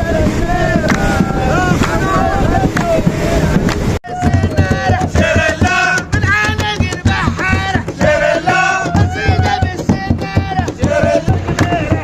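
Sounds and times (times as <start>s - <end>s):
low drum beat: 0.0s - 12.0s.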